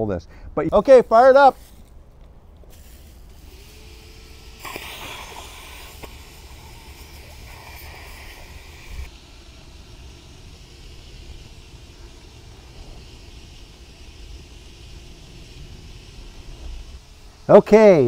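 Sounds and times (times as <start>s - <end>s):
low steady rumble: 0.1s - 18.0s
air hissing into pipe: 2.5s - 18.0s.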